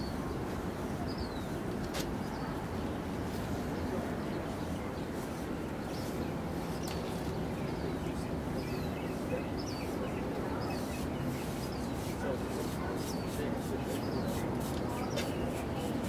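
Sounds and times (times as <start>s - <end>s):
small birds chirping: 2.2s - 16.0s.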